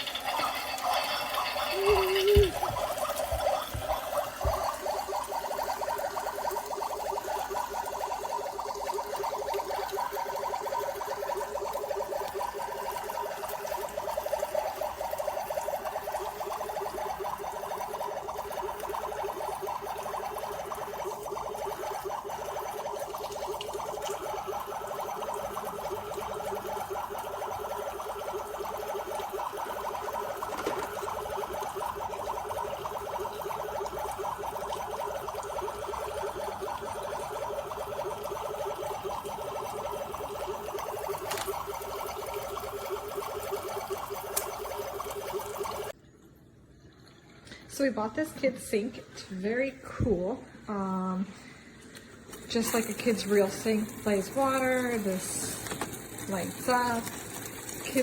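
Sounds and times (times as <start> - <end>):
water splashing into plastic basin: 1.8 - 14.0, 15.1 - 46.0, 52.0 - 58.0.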